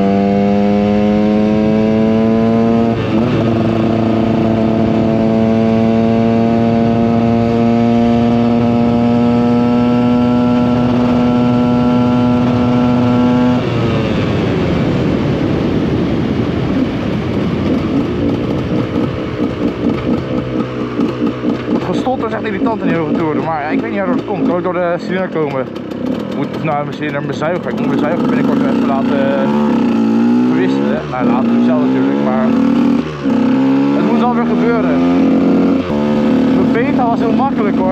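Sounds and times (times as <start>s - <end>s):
two-stroke motorcycle engine revving: 0.0s - 37.9s.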